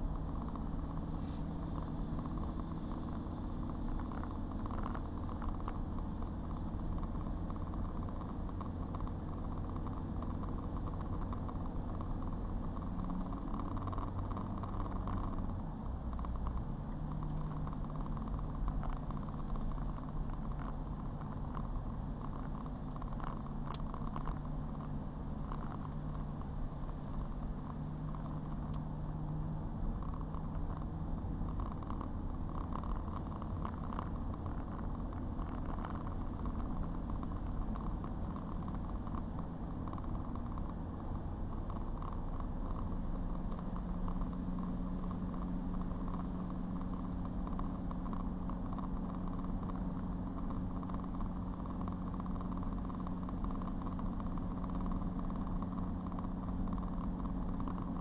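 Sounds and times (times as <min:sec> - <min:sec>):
car engine hum: 0:00.0 - 0:58.0
road noise: 0:00.0 - 0:58.0.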